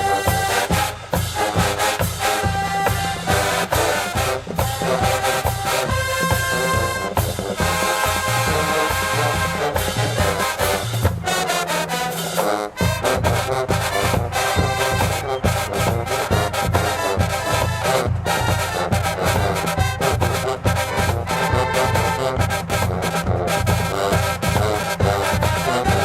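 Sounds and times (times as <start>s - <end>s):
marching band brass: 0.0s - 26.0s
pounding drumline beat: 0.0s - 26.0s.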